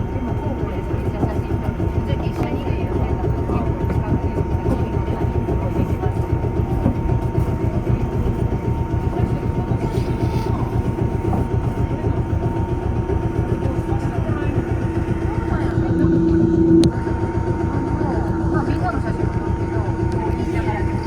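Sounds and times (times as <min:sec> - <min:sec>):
constant hum: 0:00.0 - 0:21.0
train rumbling on rails: 0:00.0 - 0:21.0.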